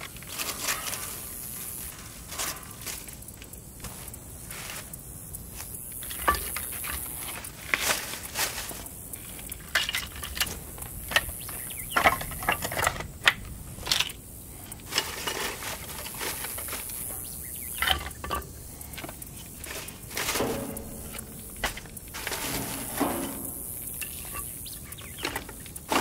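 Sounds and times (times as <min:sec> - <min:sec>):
wooden sticks clattering on metal grate: 0:00.0 - 0:26.0.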